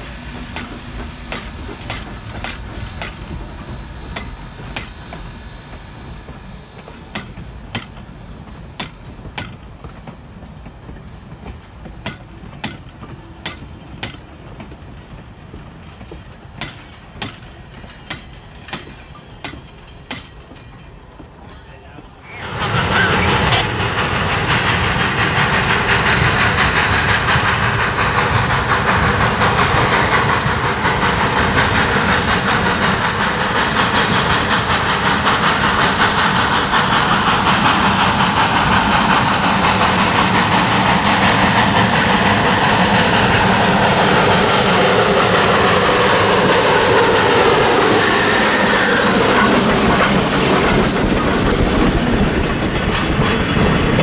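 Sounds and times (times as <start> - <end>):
train wheels clacking on rail joints: 0.0 - 22.2, 23.0 - 54.0
steam hissing: 0.0 - 54.0
steam locomotive exhaust: 0.0 - 54.0.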